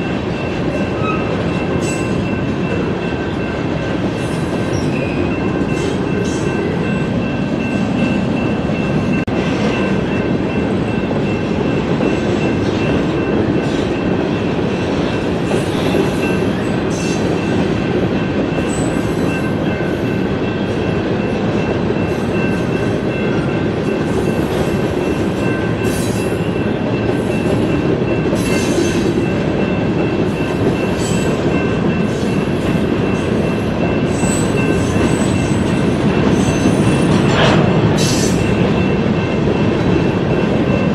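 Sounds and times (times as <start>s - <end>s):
train cars clanking: 0.0s - 40.9s
train wheels rumbling on rail: 0.0s - 40.9s.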